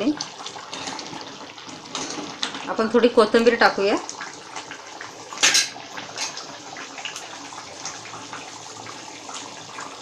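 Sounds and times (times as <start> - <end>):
curry bubbling in a pan: 0.0 - 10.0.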